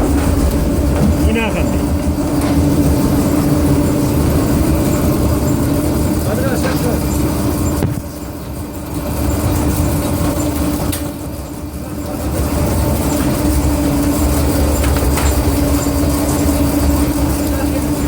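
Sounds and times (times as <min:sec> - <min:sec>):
baling machine humming: 0:00.0 - 0:18.0.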